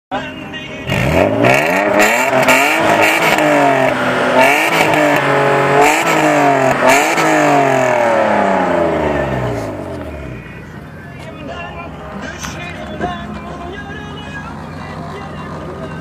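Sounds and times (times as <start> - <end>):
car engine revving: 0.4 - 16.0.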